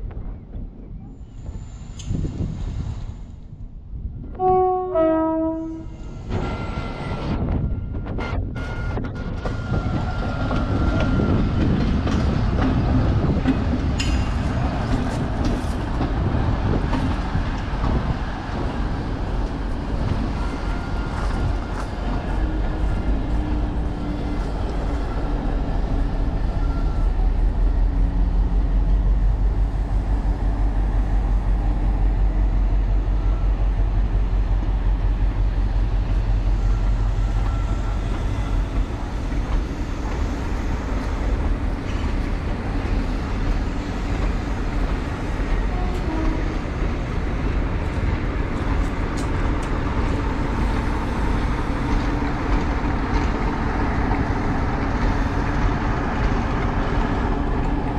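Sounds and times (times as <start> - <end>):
diesel locomotive engine droning: 0.0 - 57.9
train wheels rumbling on rails: 0.0 - 57.9.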